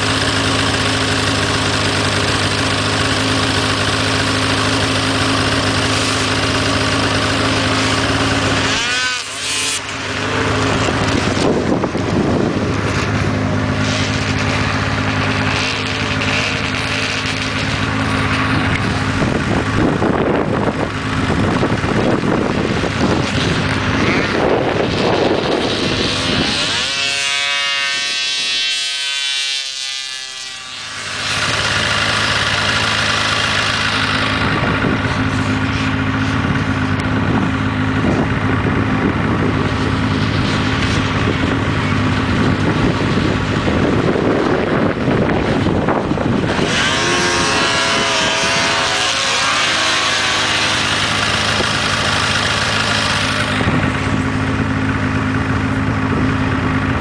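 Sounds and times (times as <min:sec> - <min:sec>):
snowmobile engine accelerating: 0:00.0 - 0:57.0
snowmobile engines idling: 0:00.0 - 0:57.0.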